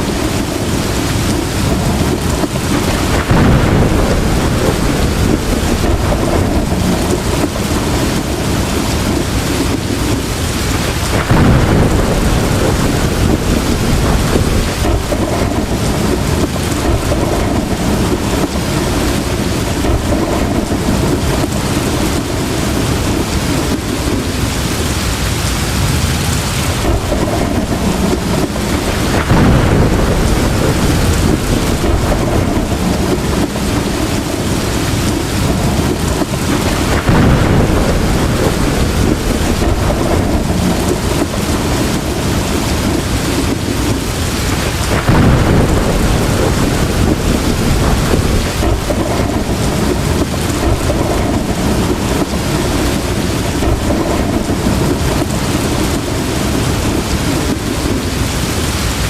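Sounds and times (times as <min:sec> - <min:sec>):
heavy rain pouring: 0:00.0 - 0:59.0
thunder rolling: 0:00.0 - 0:59.0.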